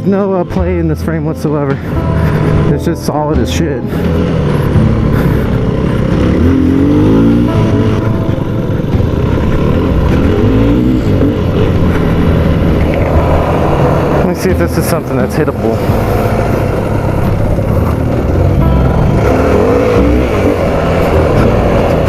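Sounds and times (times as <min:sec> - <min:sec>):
motorcycle engine revving: 0:01.7 - 0:22.0.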